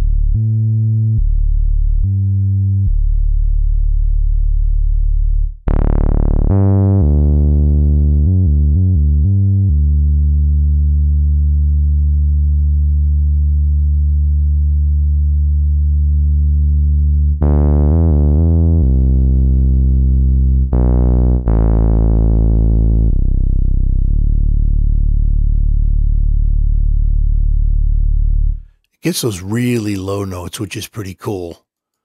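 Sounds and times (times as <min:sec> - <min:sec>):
deep synthesizer bass notes: 0:00.0 - 0:28.8.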